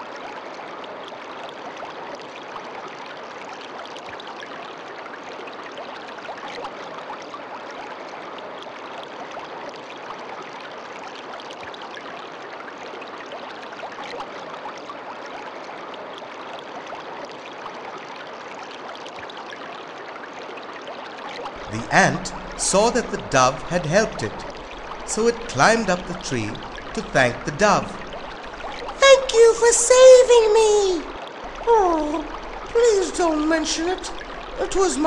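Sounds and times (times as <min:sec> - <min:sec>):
stream water running: 0:00.0 - 0:35.0.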